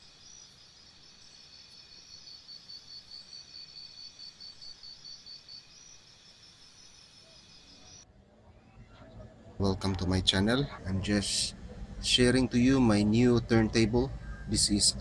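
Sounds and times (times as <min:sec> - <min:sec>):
crickets chirping: 0:00.0 - 0:08.1, 0:10.4 - 0:15.0.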